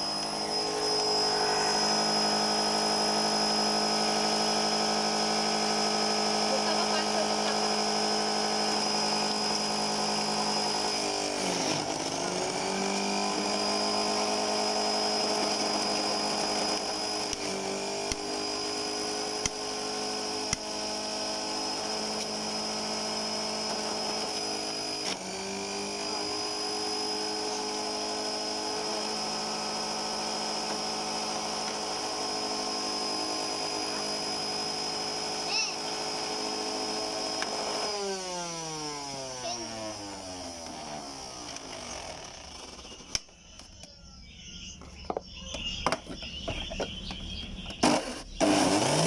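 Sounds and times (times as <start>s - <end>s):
juicer motor whining: 0.0s - 49.0s.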